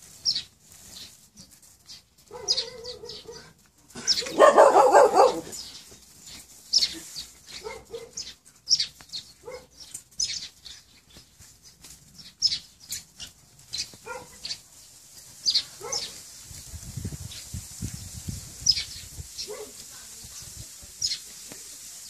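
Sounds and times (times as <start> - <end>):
scuffling on the ground: 0.0 - 22.0.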